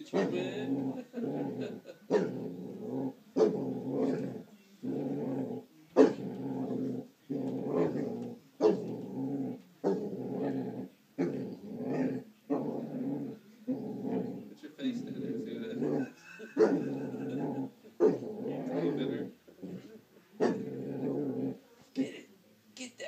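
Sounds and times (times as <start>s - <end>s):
dog growling: 0.0s - 21.6s.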